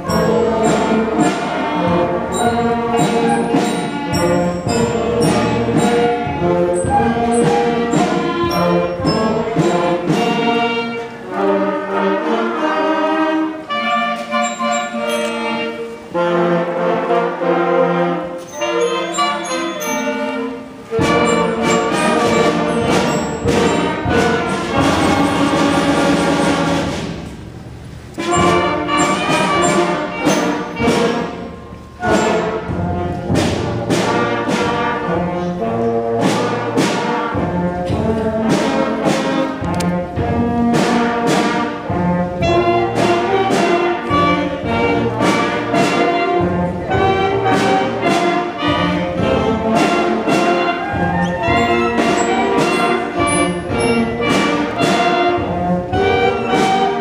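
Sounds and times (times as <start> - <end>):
school band playing brass piece: 0.0 - 57.0.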